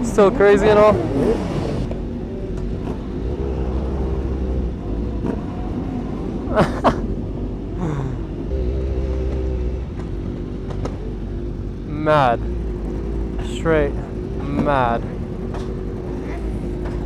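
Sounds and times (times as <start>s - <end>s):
engine revving: 0.0s - 17.0s
motorcycle and car engines rumbling: 0.0s - 17.0s.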